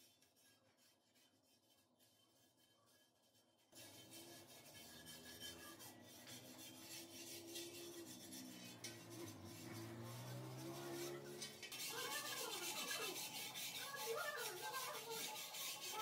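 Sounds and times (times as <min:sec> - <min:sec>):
hand tool scraping metal blade: 0:00.0 - 0:16.0.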